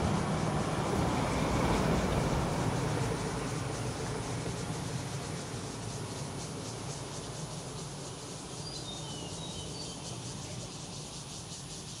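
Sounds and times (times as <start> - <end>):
insects pulsing calls: 0.0 - 12.0.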